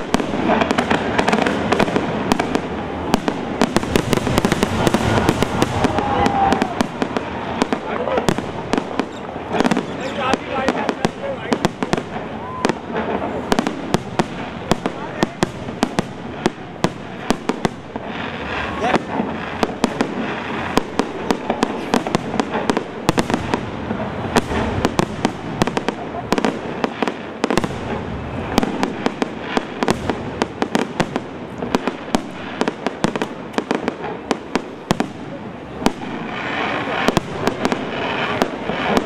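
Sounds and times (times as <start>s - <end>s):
fireworks bangs: 0.0s - 39.0s
fireworks crackling: 0.0s - 39.0s.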